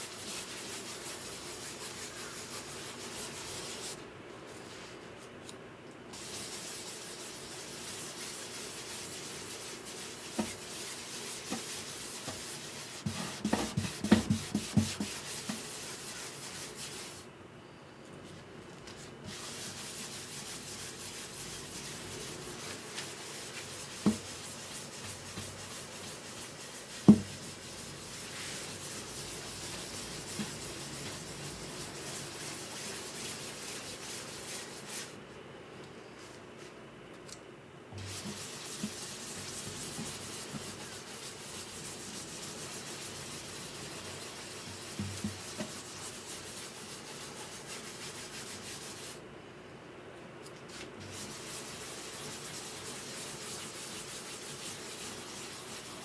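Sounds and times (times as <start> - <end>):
hand sanding wood: 0.0 - 4.0, 6.2 - 17.3, 19.3 - 35.2, 38.0 - 49.2, 51.0 - 56.0.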